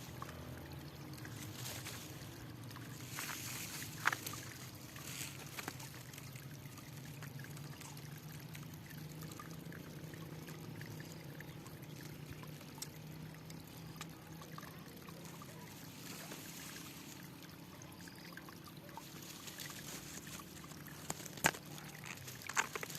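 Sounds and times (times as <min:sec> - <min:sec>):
water trickling: 0:00.0 - 0:22.9.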